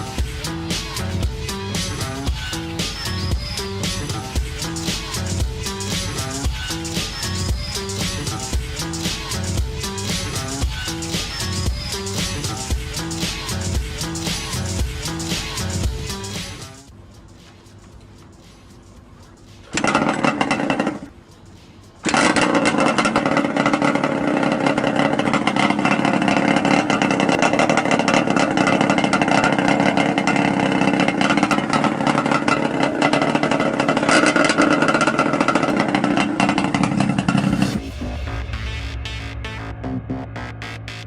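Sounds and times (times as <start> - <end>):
two-stroke engine running: 0.0 - 17.0, 19.6 - 21.2, 22.0 - 37.9.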